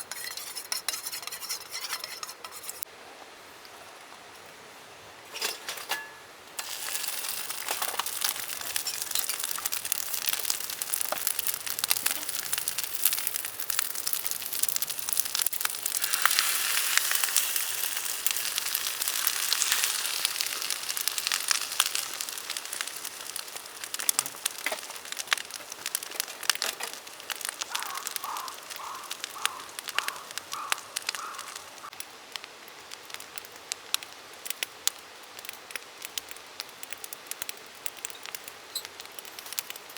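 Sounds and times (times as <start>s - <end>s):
rice sizzling in a pan: 0.0s - 2.9s, 5.9s - 39.9s.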